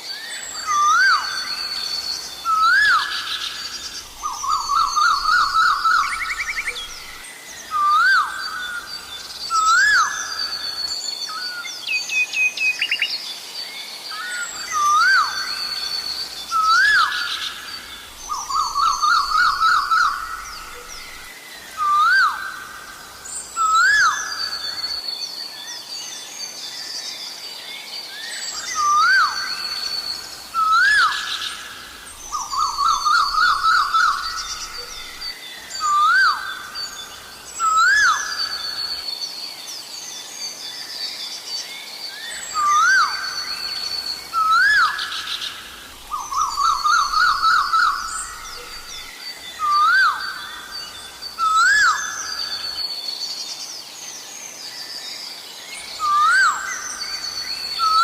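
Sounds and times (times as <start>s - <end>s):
small birds chirping: 0.0s - 12.1s, 14.1s - 27.4s, 28.2s - 58.0s.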